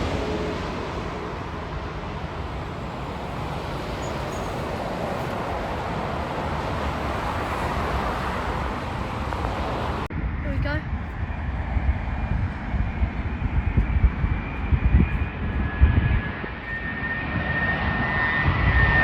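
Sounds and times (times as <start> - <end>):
jet engine low rumble: 0.0 - 19.0.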